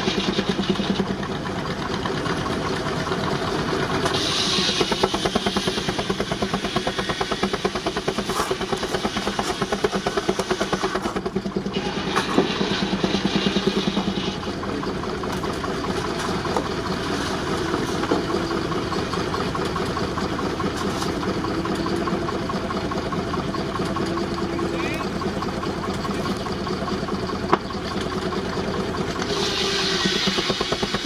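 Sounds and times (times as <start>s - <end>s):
mechanical running sound: 0.0s - 31.0s
steam engine exhaust beats: 0.0s - 31.0s.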